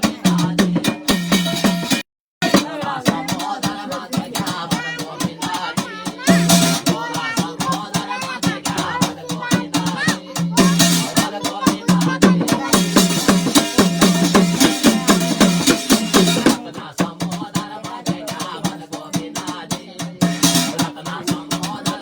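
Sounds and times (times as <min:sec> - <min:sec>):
fast steady drumming: 0:00.0 - 0:22.0.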